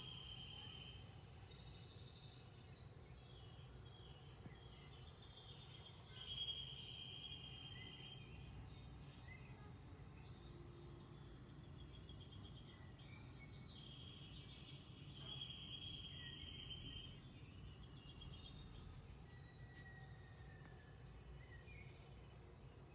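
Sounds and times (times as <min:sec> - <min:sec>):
birds chirping and trilling: 0:00.0 - 0:22.9.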